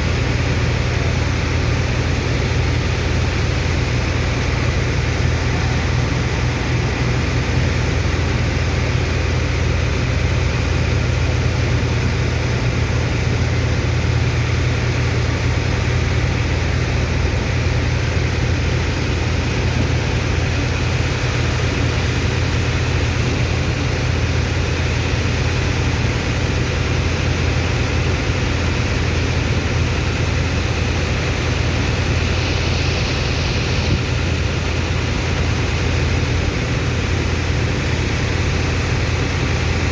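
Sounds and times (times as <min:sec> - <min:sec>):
pump engine low drone: 0:00.0 - 0:39.9.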